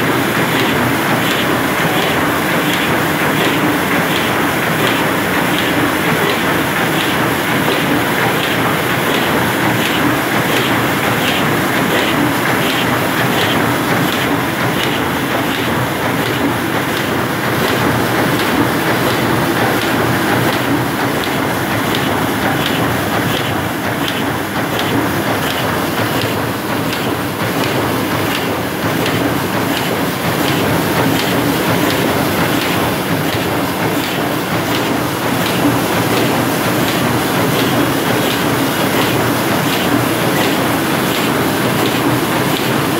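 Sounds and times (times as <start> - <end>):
printing press clattering: 0.0 - 42.9.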